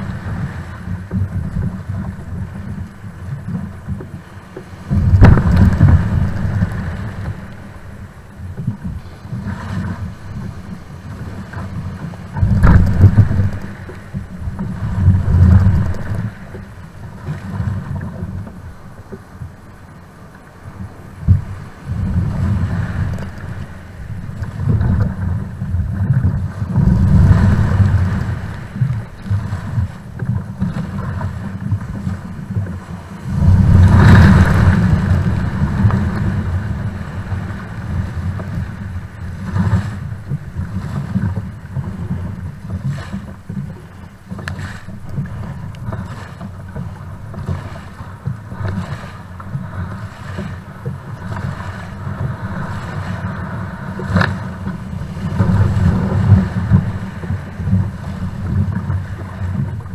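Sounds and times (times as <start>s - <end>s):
breaking surf: 0.0s - 18.6s, 20.5s - 59.9s
paddle splashing: 0.0s - 59.9s
wind rumbling on microphone: 0.0s - 59.9s.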